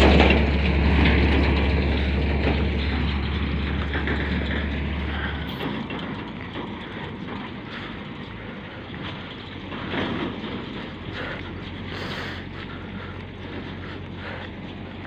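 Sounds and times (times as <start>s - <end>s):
deep low hum: 0.0s - 15.0s
motorcycle engine running: 0.0s - 15.0s
wind and road noise: 0.0s - 15.0s.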